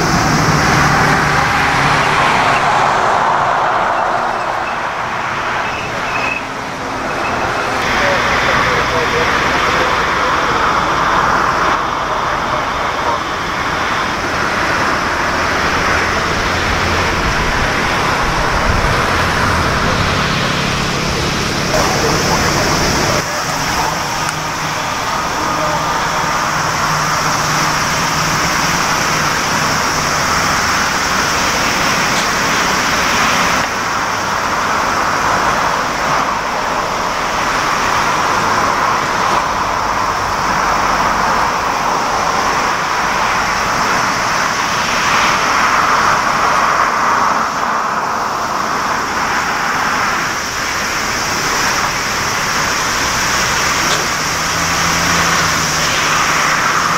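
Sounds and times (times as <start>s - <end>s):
jet engines at taxi power: 0.0s - 56.9s.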